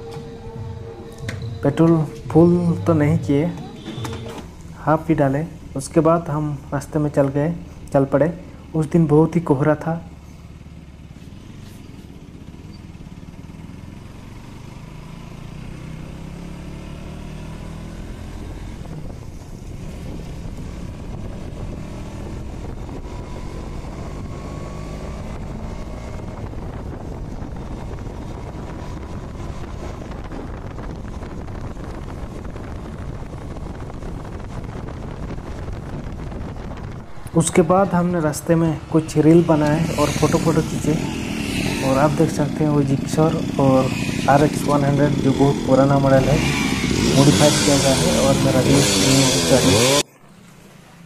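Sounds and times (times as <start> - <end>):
motorcycle engine accelerating: 0.0 - 6.3, 10.1 - 51.0.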